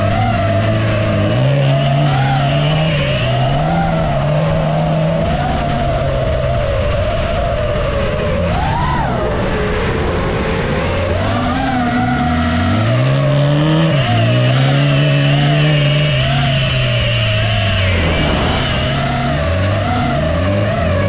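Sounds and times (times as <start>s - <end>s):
high-pitched whine: 0.0s - 21.0s
race car engines revving: 0.0s - 21.0s.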